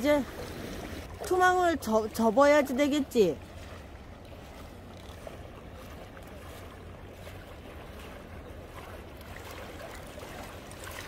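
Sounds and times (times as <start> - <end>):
water sloshing as people wade: 0.0 - 11.0.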